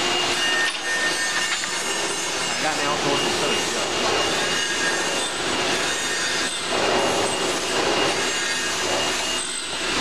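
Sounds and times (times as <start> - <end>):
grinder hissing on metal: 0.0 - 10.0
high whining tones: 0.0 - 10.0.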